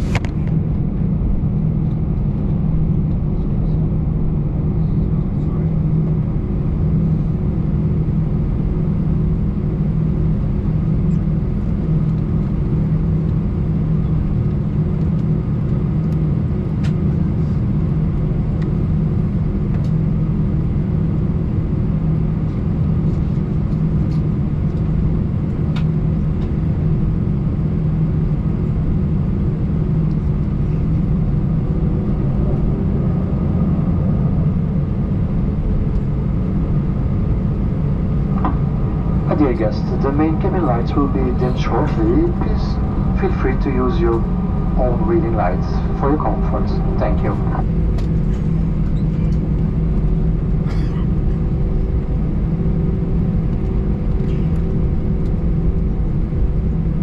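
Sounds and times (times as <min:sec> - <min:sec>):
jet engines idling drone: 0:00.0 - 0:56.7.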